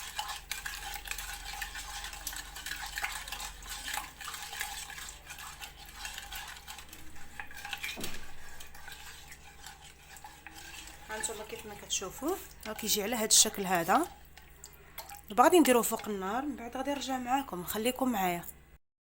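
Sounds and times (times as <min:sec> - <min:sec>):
utensil stirring and clinking in bowl: 0:00.0 - 0:18.3.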